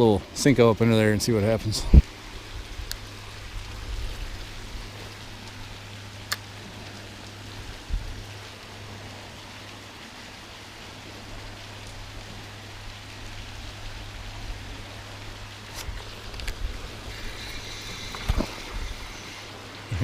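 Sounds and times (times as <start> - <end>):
waterfall splashing: 0.0 - 20.0.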